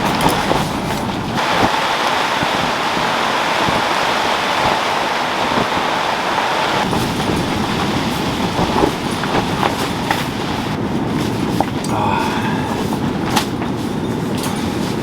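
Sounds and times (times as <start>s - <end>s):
steady rain: 0.0s - 13.9s.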